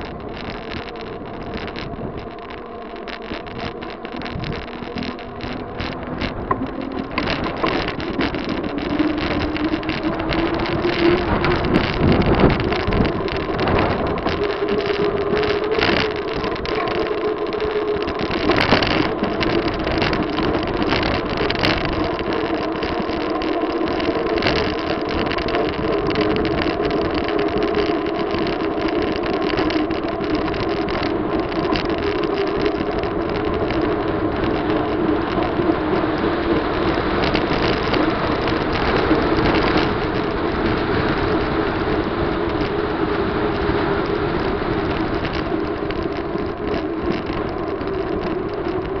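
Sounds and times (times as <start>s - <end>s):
wind noise on microphone: 0.0s - 49.0s.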